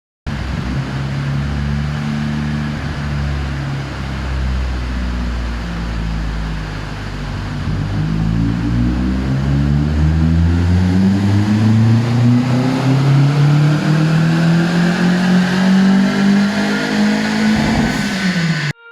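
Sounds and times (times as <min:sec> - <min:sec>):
car engine running: 0:00.3 - 0:09.6, 0:10.2 - 0:18.7.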